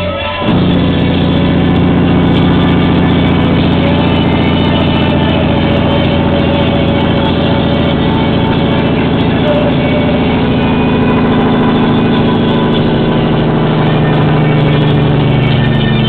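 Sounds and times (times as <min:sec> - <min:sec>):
cab radio: 0:00.0 - 0:16.0
truck engine compression brake: 0:00.3 - 0:16.0.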